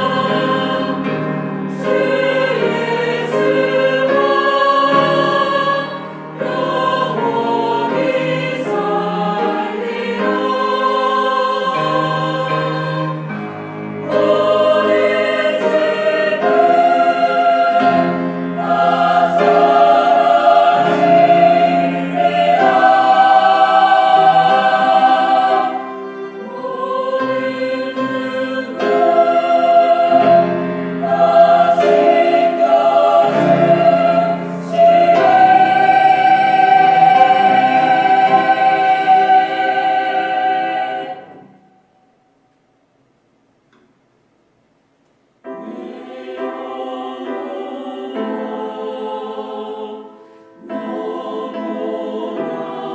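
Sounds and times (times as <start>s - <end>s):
choir singing a hymn: 0.0s - 42.4s, 45.4s - 52.9s.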